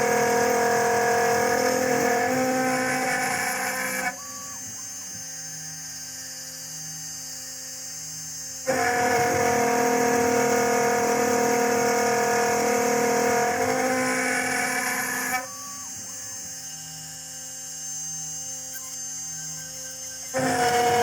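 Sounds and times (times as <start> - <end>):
milling machine spindle hum: 0.0 - 21.0
ringing whining metal cutting: 0.0 - 21.0.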